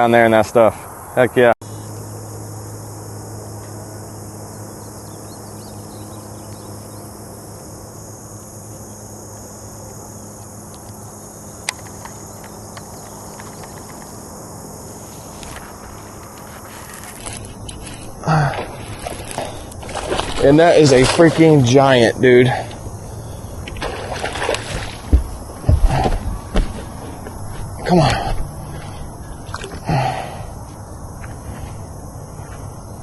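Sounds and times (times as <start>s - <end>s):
insect chorus: 0.0s - 33.0s
low steady hum: 0.1s - 33.0s.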